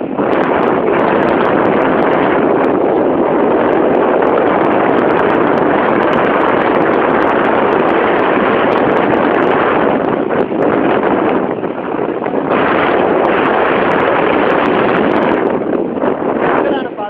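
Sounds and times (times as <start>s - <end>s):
vehicle rushing noise: 0.0s - 17.0s
wind buffeting microphone: 0.0s - 17.0s.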